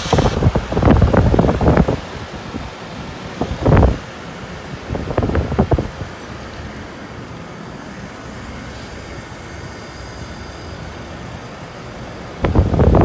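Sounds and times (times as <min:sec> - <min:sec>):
compressor hum: 0:00.0 - 0:13.0
condenser fan noise: 0:00.0 - 0:13.0
rough burst of noise: 0:00.0 - 0:13.0.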